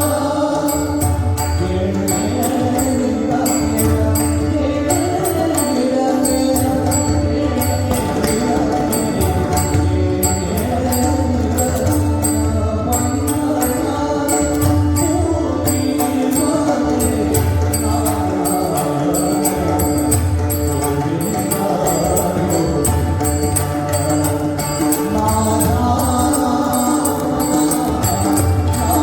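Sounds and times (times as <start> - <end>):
hand drums playing: 0.0 - 29.0.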